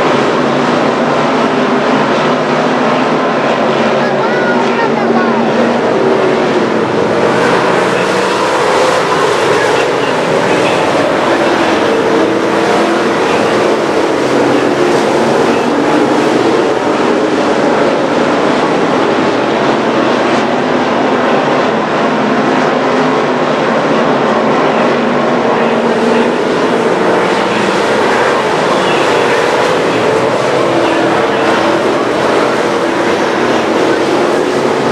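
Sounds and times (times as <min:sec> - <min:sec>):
race car engines droning: 0:00.0 - 0:34.9.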